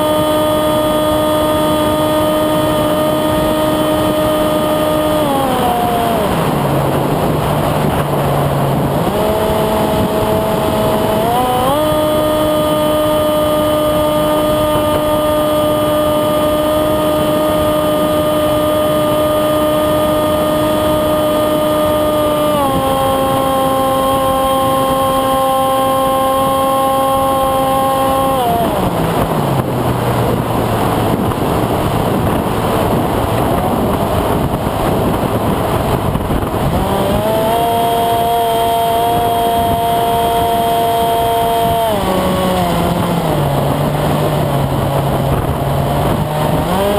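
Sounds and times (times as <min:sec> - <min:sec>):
electric motor and propeller whine: 0:00.0 - 0:46.9
rushing wind: 0:00.0 - 0:46.9.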